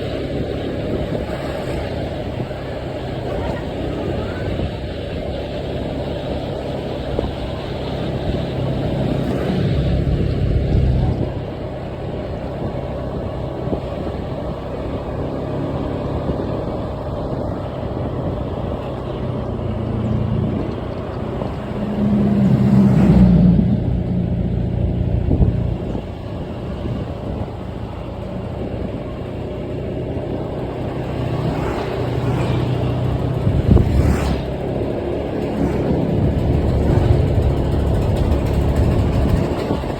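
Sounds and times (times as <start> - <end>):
motor vehicle running: 0.0 - 39.9.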